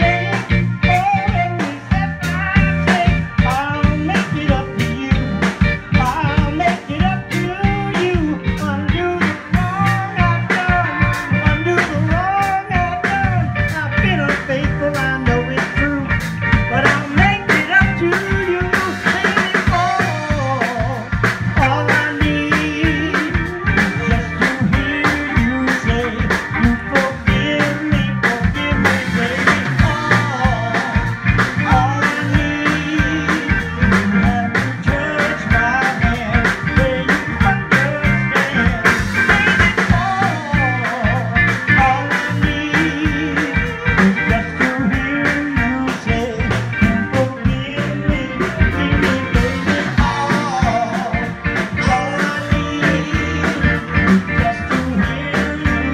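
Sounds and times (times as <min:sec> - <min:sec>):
drum kit beat: 0:00.0 - 0:55.9
electric guitars: 0:00.0 - 0:55.9
man singing: 0:00.0 - 0:55.9.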